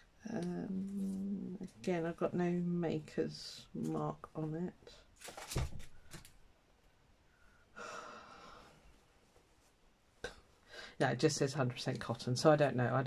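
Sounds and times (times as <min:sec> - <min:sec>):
soft fabric hiss: 0:00.0 - 0:13.0.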